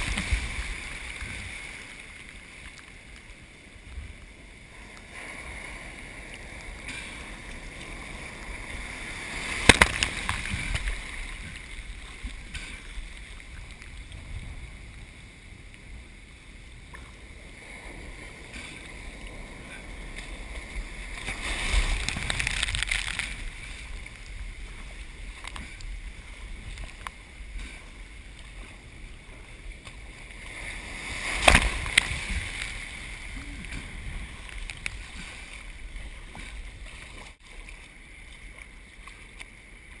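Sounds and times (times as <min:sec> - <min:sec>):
ocean surf breaking: 0:00.0 - 0:37.4.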